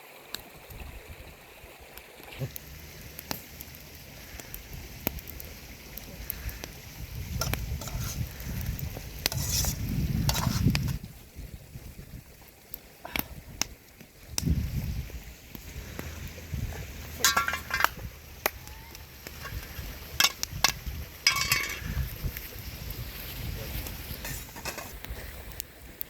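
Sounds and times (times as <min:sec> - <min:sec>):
food frying in a pan: 0:01.9 - 0:26.0.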